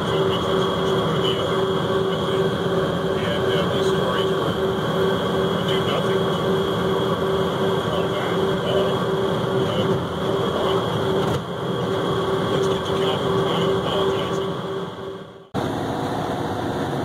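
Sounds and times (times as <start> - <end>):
pulsing low hum: 0.0 - 17.0
road rumble: 0.0 - 17.0
truck engine drone: 0.0 - 17.0.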